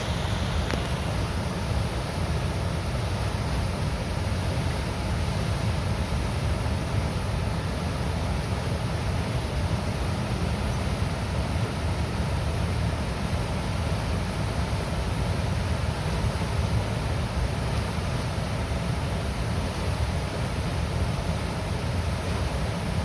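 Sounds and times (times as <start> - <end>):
water rushing through dam gates: 0.0 - 23.0.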